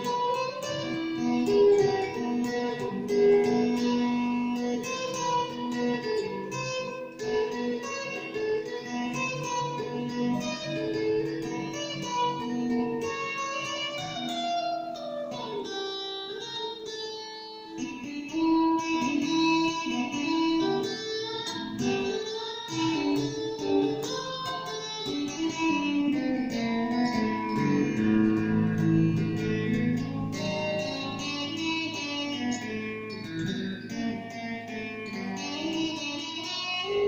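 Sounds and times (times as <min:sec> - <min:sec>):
electric guitar single notes: 0:00.0 - 0:37.0.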